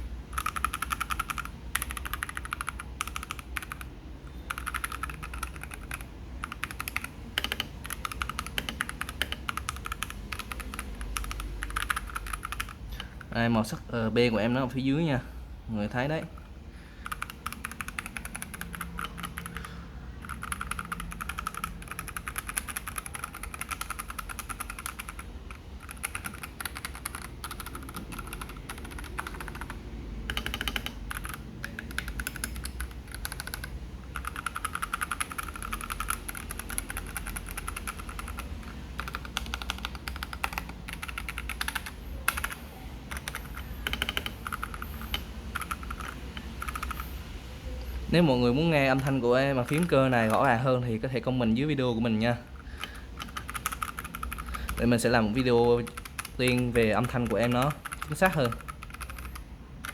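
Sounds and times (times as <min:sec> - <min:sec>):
fast typing on mechanical keyboard: 0:00.0 - 0:14.4, 0:15.9 - 0:47.3, 0:48.1 - 0:59.9.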